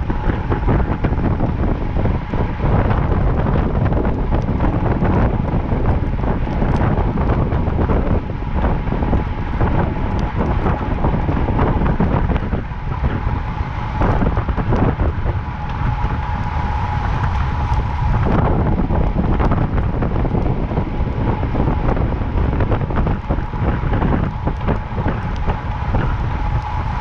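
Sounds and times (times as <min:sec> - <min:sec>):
thin steady whine: 0:00.0 - 0:27.0
tyre noise on asphalt: 0:00.0 - 0:27.0
wind buffeting microphone: 0:00.0 - 0:27.0.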